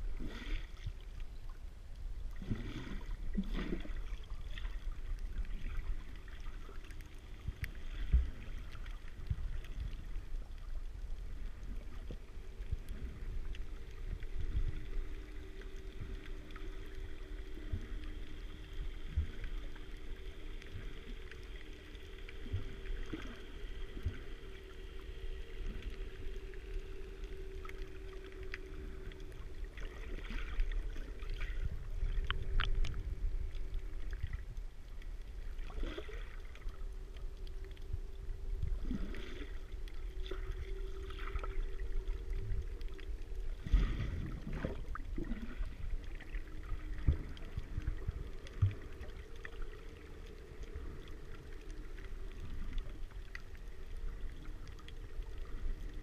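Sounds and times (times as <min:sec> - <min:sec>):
muffled underwater water movement: 0:00.0 - 0:56.0
steady low hum: 0:00.0 - 0:56.0.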